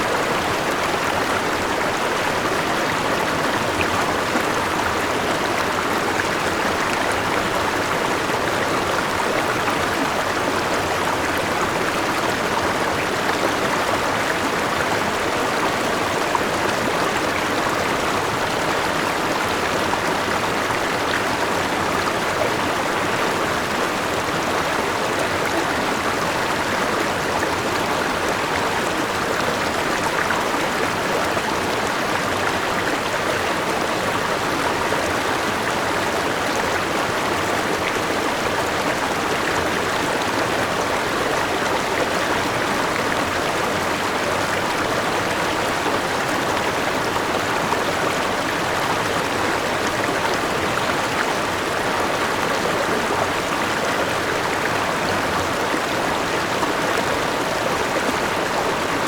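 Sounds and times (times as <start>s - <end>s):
small waterfall: 0.0s - 59.0s.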